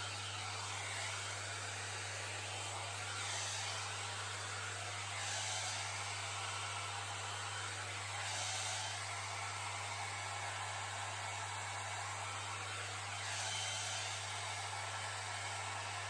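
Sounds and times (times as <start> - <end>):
hot-air brush blowing: 0.0 - 16.0.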